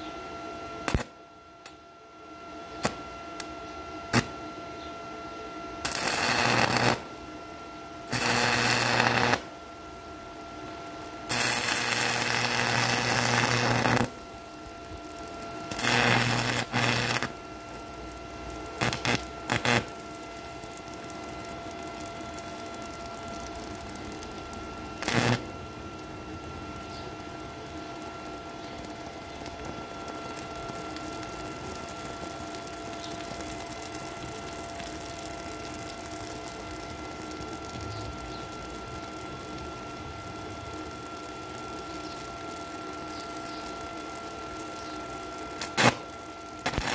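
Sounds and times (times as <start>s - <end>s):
steady hum: 0.0s - 46.9s
welding arc crackling and buzzing: 0.8s - 1.8s, 2.8s - 4.4s, 5.7s - 46.9s.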